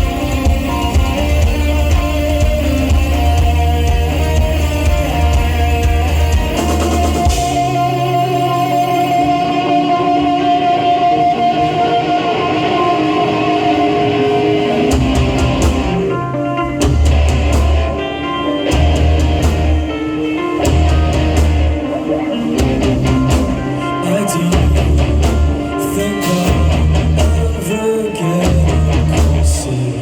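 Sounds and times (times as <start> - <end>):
bass notes: 0.0 - 10.0, 14.1 - 27.6, 28.5 - 29.7
drum kit: 0.0 - 30.0
electric guitar: 0.0 - 30.0
live rock band playing: 0.0 - 30.0.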